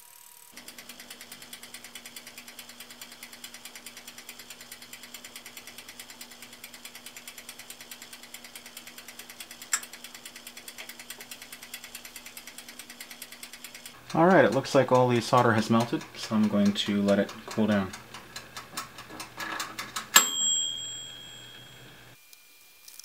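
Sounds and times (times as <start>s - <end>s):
mechanical timer ticking: 0.5s - 22.2s
oven low hum: 0.6s - 22.2s.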